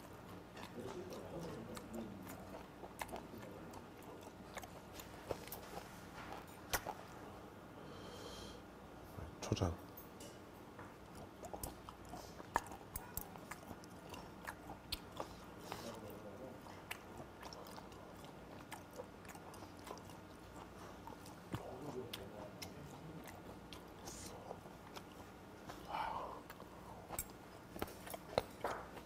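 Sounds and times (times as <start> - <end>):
wet mouth chewing: 0.1 - 7.2, 10.9 - 29.0.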